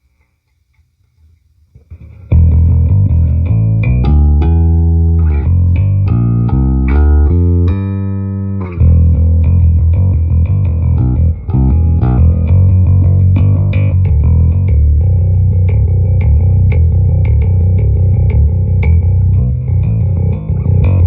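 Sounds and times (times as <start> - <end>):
electric bass guitar notes: 1.9 - 21.0.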